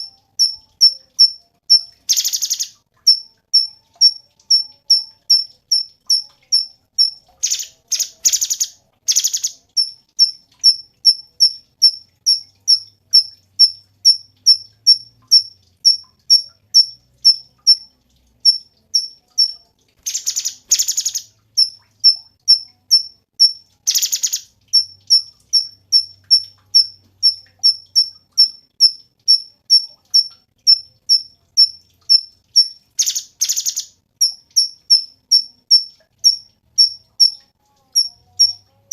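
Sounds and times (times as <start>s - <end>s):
bird chirping and trilling: 0.0s - 38.9s.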